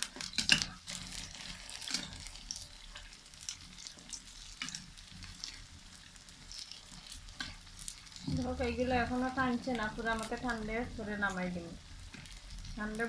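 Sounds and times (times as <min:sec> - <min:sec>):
eggplant sizzling in hot oil: 0:00.0 - 0:13.0
metal spatula in a pan: 0:00.0 - 0:13.0.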